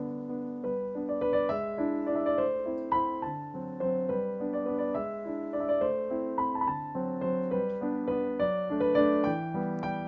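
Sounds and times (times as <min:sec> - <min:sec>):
slow piano music: 0:00.0 - 0:10.0.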